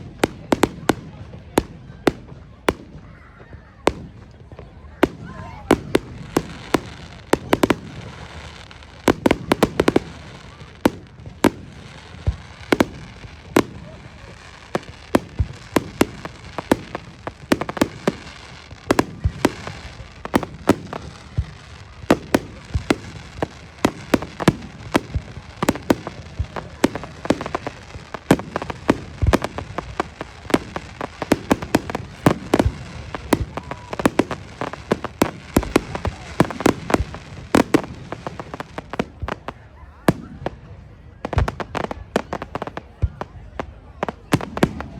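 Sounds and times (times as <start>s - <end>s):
fireworks bangs and cracks: 0.0s - 44.9s
murmur of crowd: 0.0s - 44.9s.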